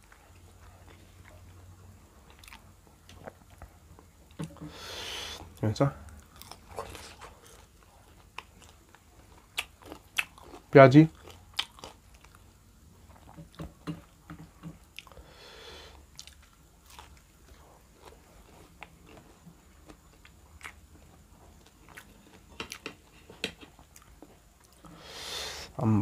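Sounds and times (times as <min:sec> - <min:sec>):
person chewing crunchy food: 0:00.0 - 0:24.9.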